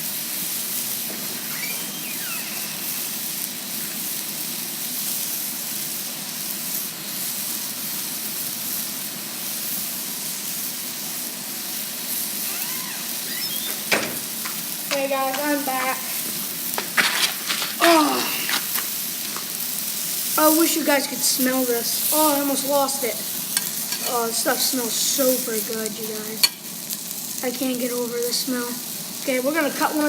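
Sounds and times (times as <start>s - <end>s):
chicken pieces frying: 0.0s - 30.0s.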